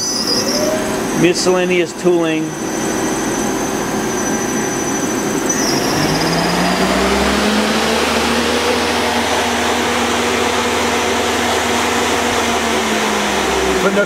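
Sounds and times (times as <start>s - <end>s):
machinery whirring: 0.0s - 14.0s.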